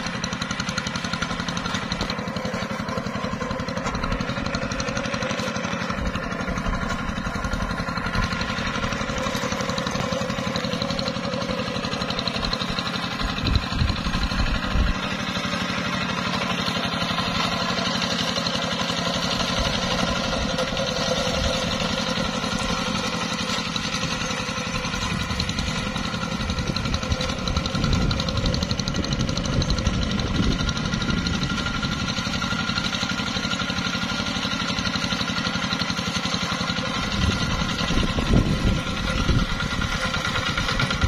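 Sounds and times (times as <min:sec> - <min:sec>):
hand tractor engine running: 0:00.0 - 0:41.0.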